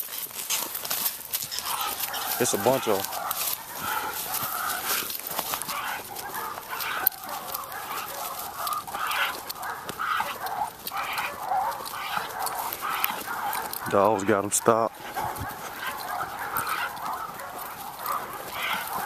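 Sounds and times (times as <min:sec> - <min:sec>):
dogs barking: 0:01.3 - 0:19.0.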